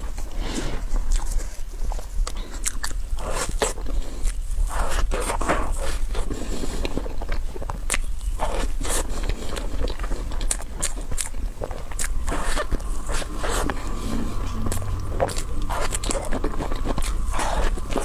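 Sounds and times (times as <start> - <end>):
biting and chewing: 0.0 - 18.0.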